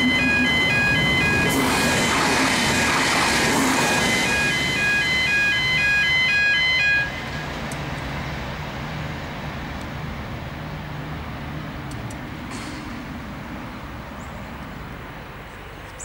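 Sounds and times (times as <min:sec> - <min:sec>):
train engines and wheels passing: 0:00.0 - 0:16.0.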